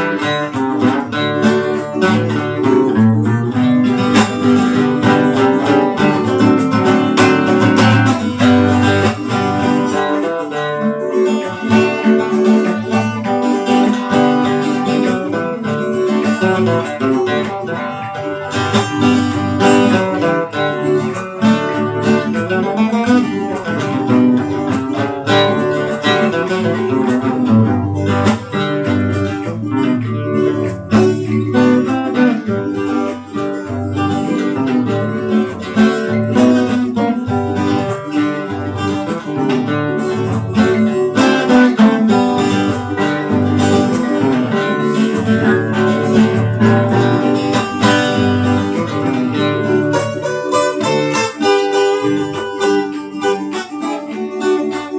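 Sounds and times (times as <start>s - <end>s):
acoustic guitars playing: 0.0s - 54.9s.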